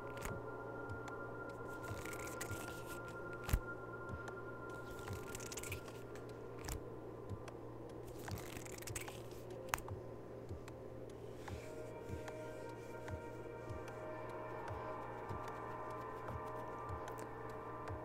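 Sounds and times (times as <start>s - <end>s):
ambient electronic drone: 0.0s - 18.0s.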